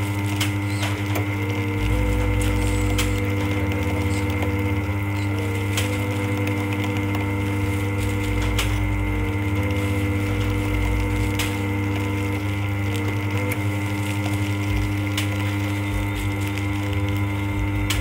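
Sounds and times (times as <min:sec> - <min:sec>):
band sealer motor hum: 0:00.0 - 0:18.0.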